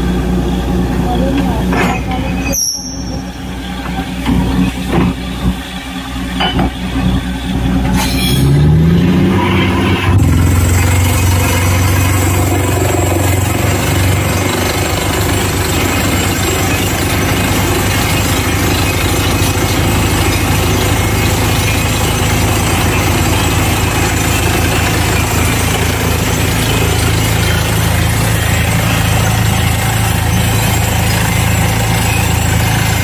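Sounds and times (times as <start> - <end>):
drilling rig engine revving: 0.0 - 33.0.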